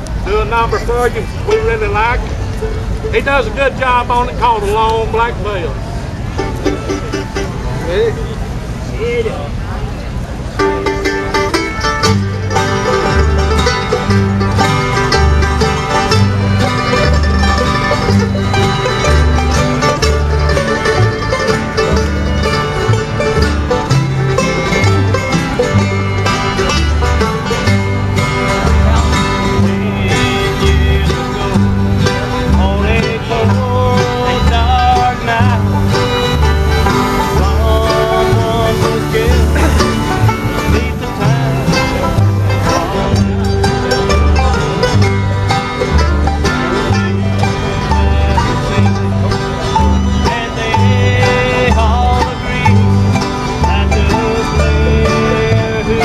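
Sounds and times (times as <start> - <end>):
banjo: 0.0 - 9.2, 9.8 - 56.0
bluegrass band playing live: 0.0 - 56.0
bass line: 10.5 - 56.0.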